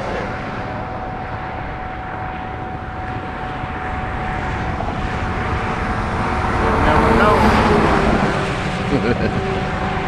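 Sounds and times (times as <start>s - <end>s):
highway traffic noise: 0.0s - 10.0s
thin whine: 0.0s - 10.0s.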